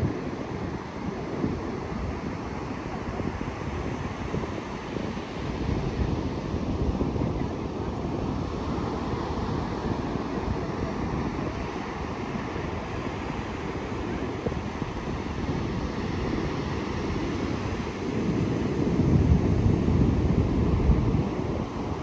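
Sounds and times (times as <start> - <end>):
beach surf: 0.0 - 22.0
wind on microphone: 0.0 - 22.0.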